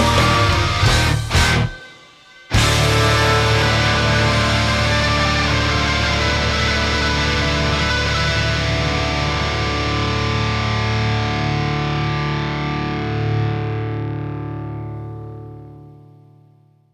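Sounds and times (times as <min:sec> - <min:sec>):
distorted electric guitar chord: 0:00.0 - 0:16.1.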